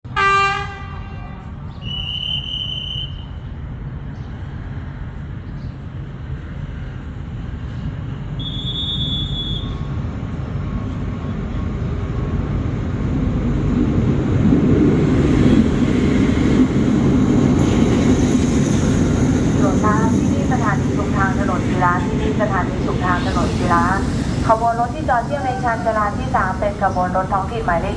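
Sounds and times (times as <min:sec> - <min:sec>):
diesel locomotive and train rumbling: 0:00.0 - 0:27.9.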